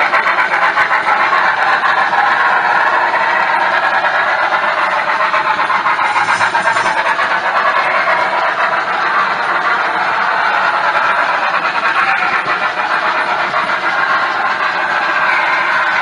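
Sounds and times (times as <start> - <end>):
fine rapid clicking: 0.0 - 16.0
model train rolling on track: 0.0 - 16.0.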